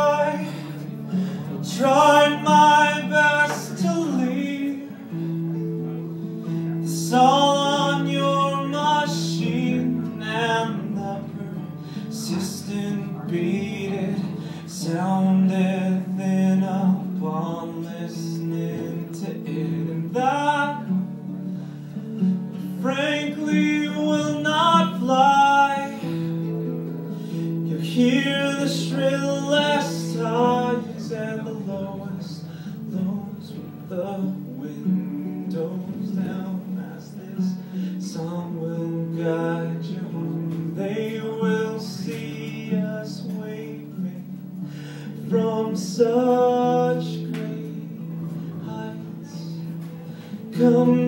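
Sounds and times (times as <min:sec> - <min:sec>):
acoustic guitar: 0:00.0 - 0:51.0
man singing: 0:00.0 - 0:51.0.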